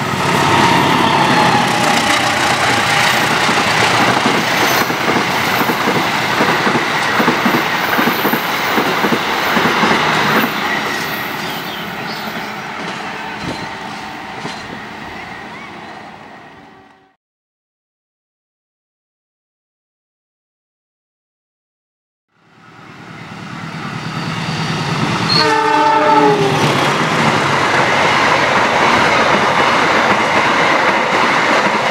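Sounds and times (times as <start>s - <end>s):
diesel locomotive passing: 0.0s - 17.2s, 22.4s - 31.9s.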